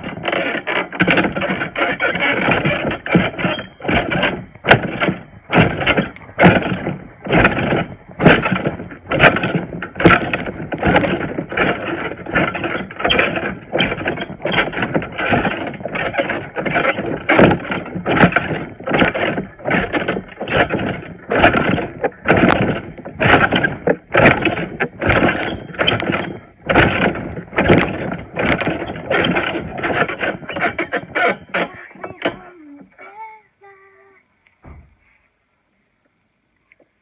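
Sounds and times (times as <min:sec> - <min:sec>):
trampoline springs squeaking: 0:00.0 - 0:33.9.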